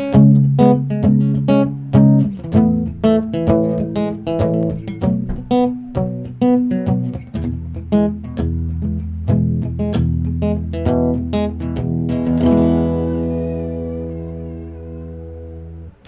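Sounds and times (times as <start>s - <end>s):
acoustic guitar plucked notes: 0.0s - 16.0s.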